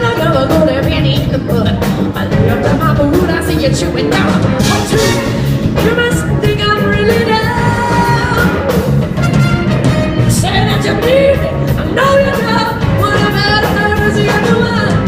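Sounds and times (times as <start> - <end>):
live soul rock band: 0.0 - 15.0.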